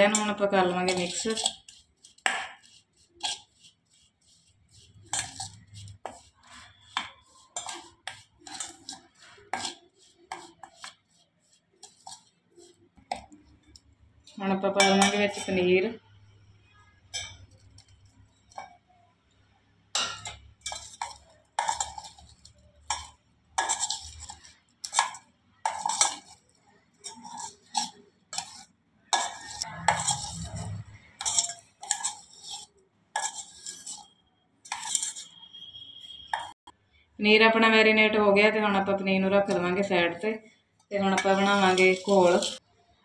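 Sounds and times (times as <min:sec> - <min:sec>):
metal spoon scraping steel bowl: 0:00.0 - 0:36.8, 0:38.4 - 0:42.7.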